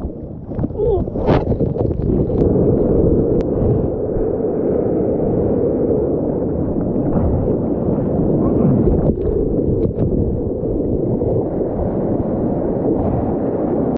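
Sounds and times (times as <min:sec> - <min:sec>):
muffled surf rushing: 0:00.0 - 0:13.9.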